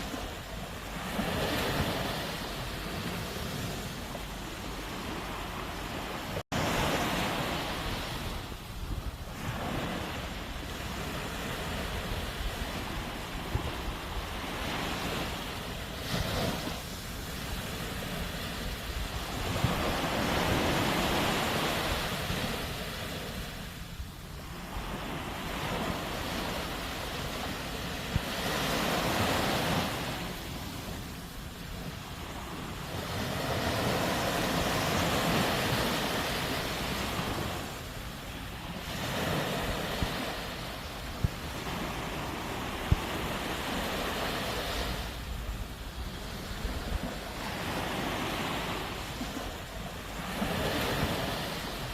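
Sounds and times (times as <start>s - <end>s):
sea waves breaking on shore: 0.0s - 51.9s
wind on microphone: 0.0s - 51.9s.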